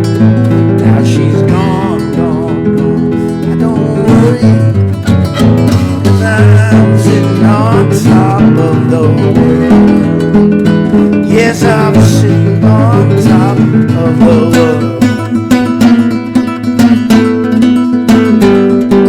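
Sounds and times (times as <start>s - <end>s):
finger-picked blues guitar: 0.0s - 19.0s.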